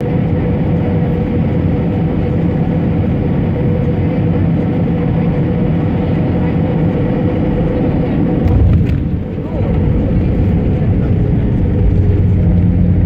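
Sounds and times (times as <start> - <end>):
constant humming tone: 0.0 - 13.0
jet engine roar in cabin: 0.0 - 13.0.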